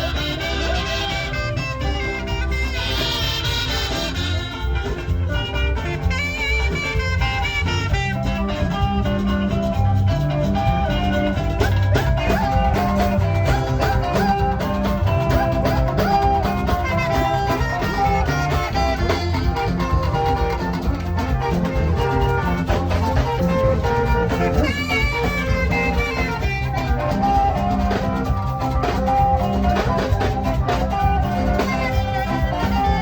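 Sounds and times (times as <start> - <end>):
saxophone melody over backing track: 0.0 - 33.0.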